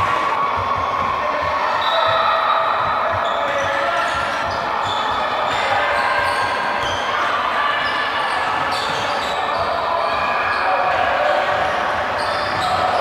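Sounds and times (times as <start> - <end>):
shoes squeaking on floor: 1.6 - 10.8, 11.5 - 13.0.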